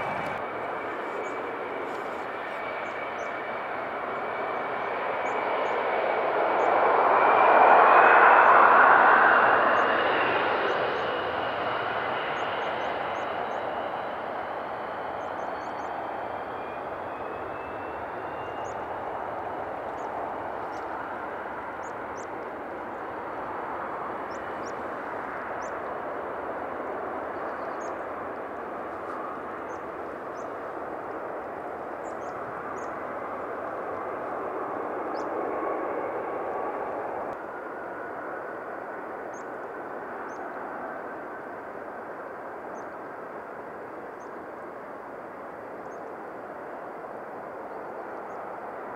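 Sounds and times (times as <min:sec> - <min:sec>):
jet engines roaring at takeoff: 0:00.0 - 0:48.9.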